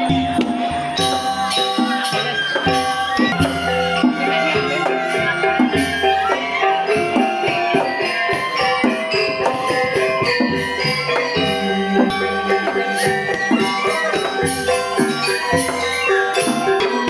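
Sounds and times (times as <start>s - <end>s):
jingling cymbal-like shimmer: 0.0s - 17.0s
metallophones ringing: 0.0s - 17.0s.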